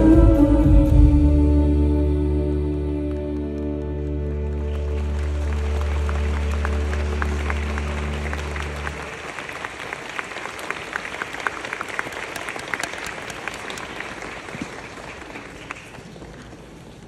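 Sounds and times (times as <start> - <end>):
audience applauding: 3.1 - 17.0.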